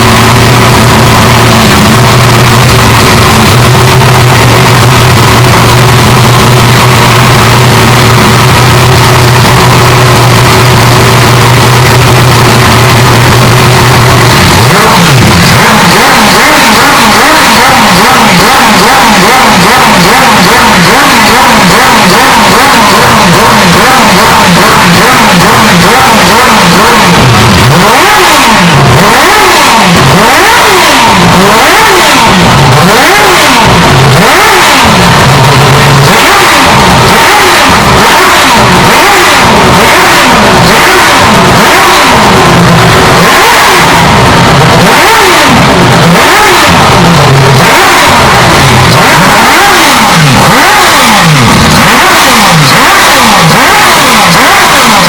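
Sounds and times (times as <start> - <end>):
race engine revving hard: 0.0 - 55.0.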